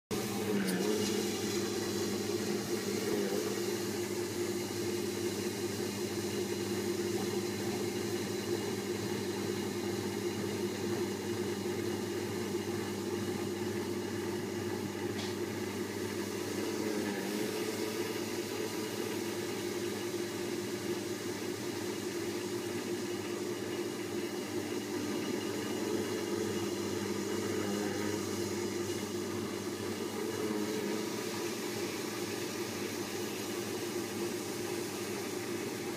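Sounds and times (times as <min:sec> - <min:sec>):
wet grinder motor humming: 0:00.1 - 0:35.9.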